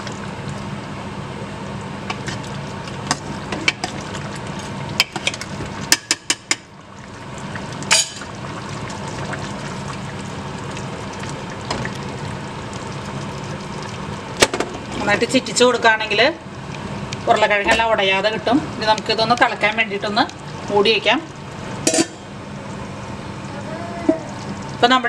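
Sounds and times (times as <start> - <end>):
liquid bubbling in a pot: 0.0 - 25.0.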